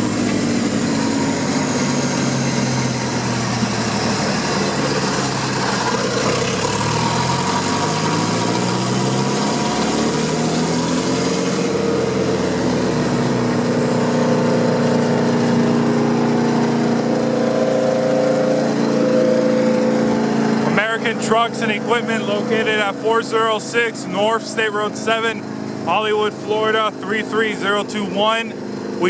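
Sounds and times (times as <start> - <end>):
wood chipper diesel engine running: 0.0 - 29.0.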